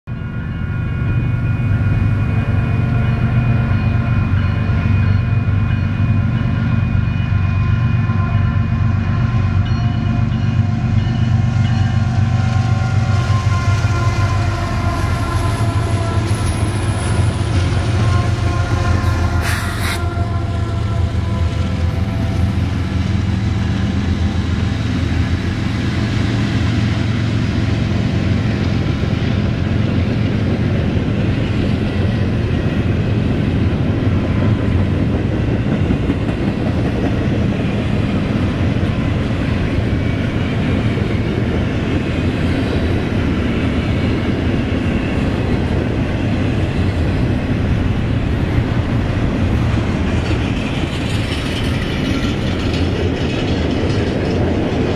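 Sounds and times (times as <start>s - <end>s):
freight train rumbling past: 0.1s - 54.9s.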